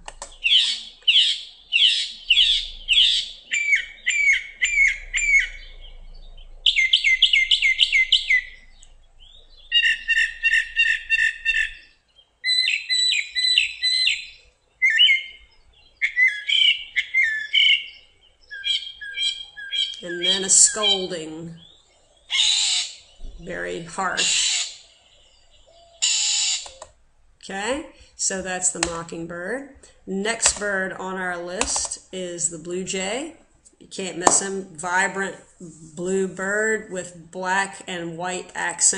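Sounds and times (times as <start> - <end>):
mockingbird singing: 0.0 - 33.2.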